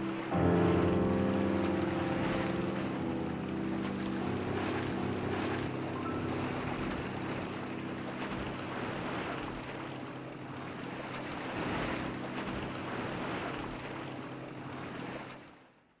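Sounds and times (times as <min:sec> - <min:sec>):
sea waves washing: 0:00.0 - 0:15.6.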